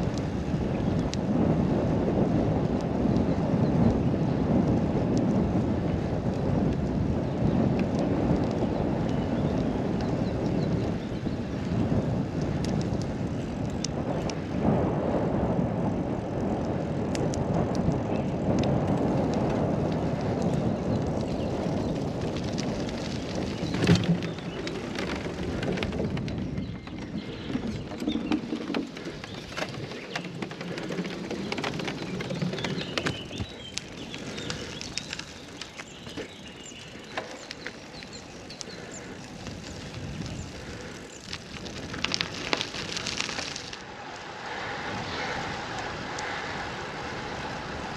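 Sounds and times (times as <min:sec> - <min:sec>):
small crackles: 0:00.0 - 0:14.7, 0:16.2 - 0:47.9
wind buffeting microphone: 0:00.0 - 0:47.9.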